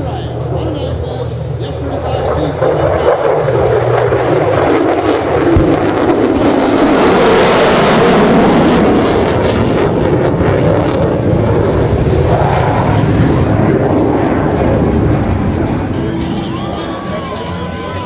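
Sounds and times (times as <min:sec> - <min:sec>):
jet engine roaring fly-by: 0:00.0 - 0:18.0.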